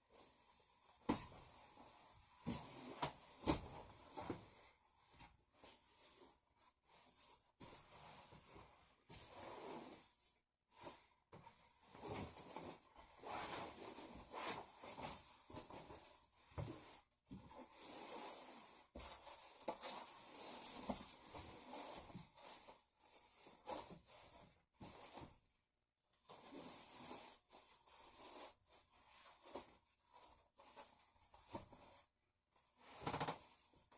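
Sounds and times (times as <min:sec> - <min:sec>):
material rustling and scraping: 0:00.0 - 0:25.6, 0:26.2 - 0:33.9.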